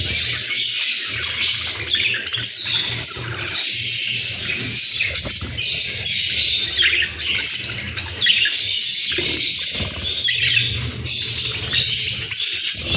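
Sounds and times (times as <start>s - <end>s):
lovebirds chirping: 0.0s - 12.9s.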